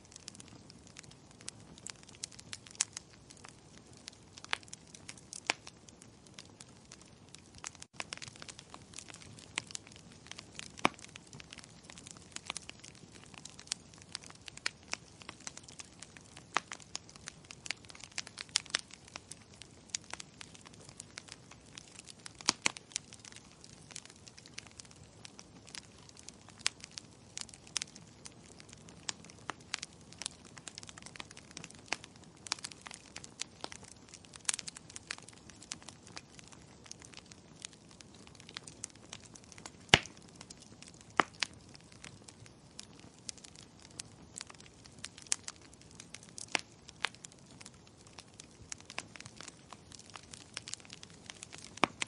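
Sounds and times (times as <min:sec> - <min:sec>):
wood fire crackling and popping: 0:00.0 - 0:52.0.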